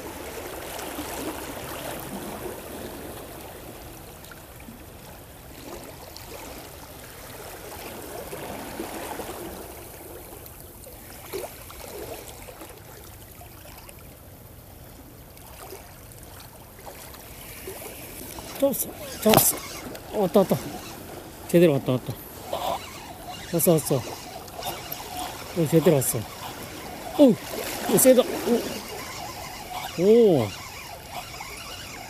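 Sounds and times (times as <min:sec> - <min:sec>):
small waves lapping against stones: 0:00.0 - 0:32.0.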